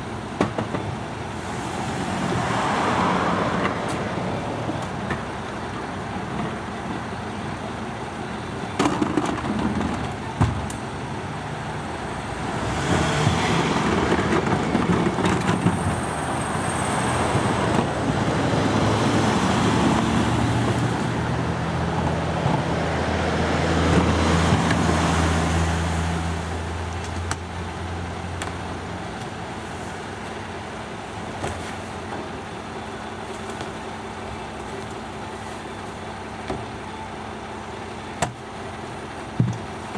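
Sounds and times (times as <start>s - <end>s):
garbage truck engine running: 3.4s - 39.9s.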